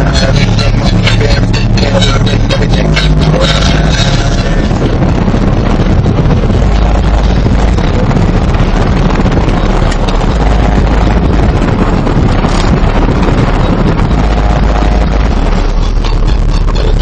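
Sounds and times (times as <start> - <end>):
distorted bass-heavy music: 0.0 - 17.0.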